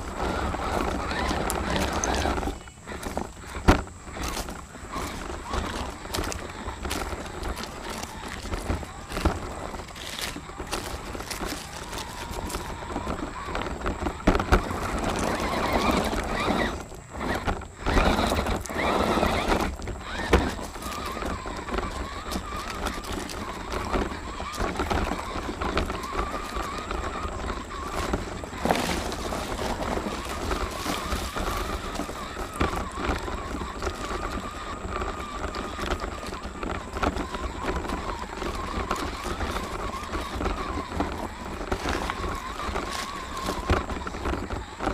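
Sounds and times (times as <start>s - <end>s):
rc car motor whining: 0.0s - 44.9s
tyres clattering on rocks: 0.1s - 44.9s.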